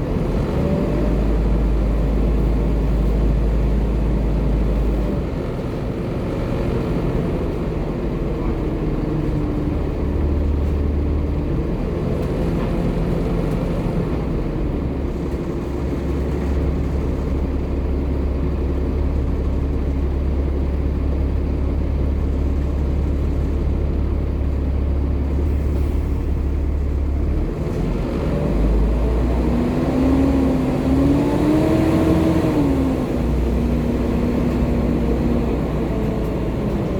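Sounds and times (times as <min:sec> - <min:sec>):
bus diesel engine running: 0:00.0 - 0:36.9.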